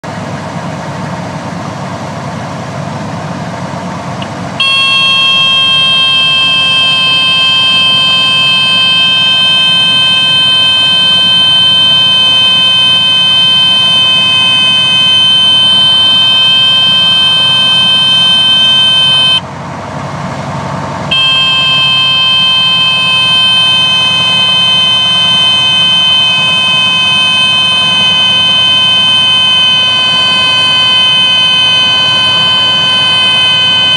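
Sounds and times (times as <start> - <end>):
stall warning horn: 4.6 - 19.4, 21.1 - 33.9.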